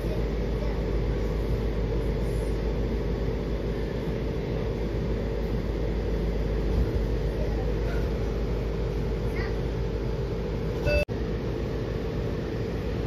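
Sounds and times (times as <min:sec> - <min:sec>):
train rumbling inside railcar: 0:00.0 - 0:11.5
constant low hum: 0:00.0 - 0:13.0.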